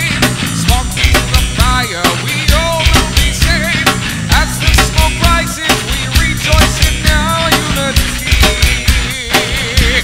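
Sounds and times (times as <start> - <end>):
drum kit beating: 0.0 - 10.0
low bass notes: 0.0 - 10.0.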